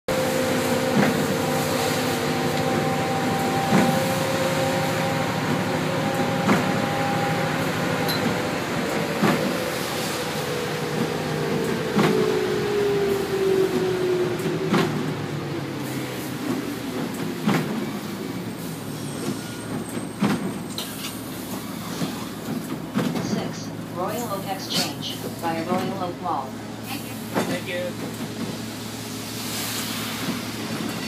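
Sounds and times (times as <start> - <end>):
bus engine whine: 0.0 - 31.0.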